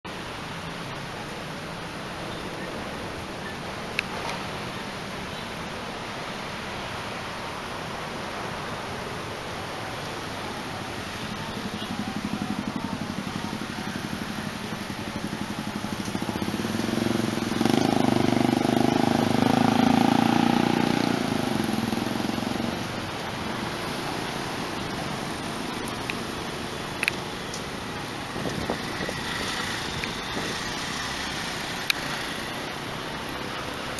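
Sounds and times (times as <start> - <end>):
motorcycles passing: 0.1 - 33.9.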